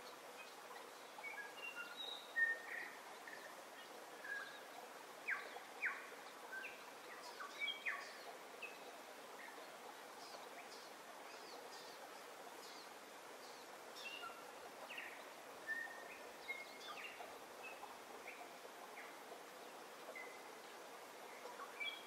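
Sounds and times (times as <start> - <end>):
faint birdsong: 0.0 - 22.0
steady background noise: 0.0 - 22.0.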